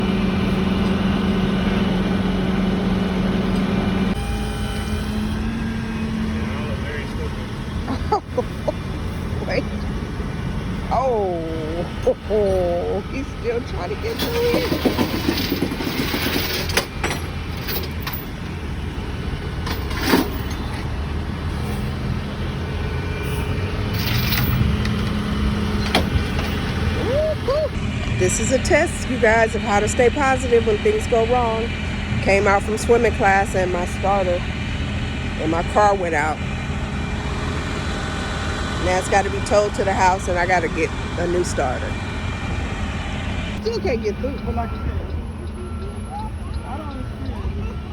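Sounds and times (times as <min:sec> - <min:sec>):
large vehicle engine humming: 0:00.0 - 0:47.9.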